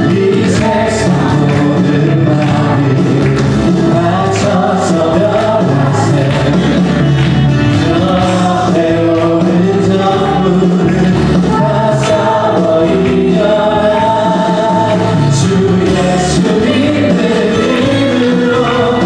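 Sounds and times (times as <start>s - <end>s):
instrumental accompaniment: 0.0s - 19.0s
voices singing together: 0.0s - 19.0s.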